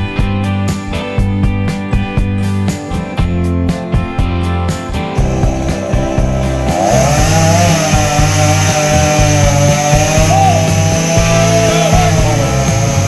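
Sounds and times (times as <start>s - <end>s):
bass and drums: 0.0s - 13.0s
distorted electric guitar: 0.0s - 13.0s.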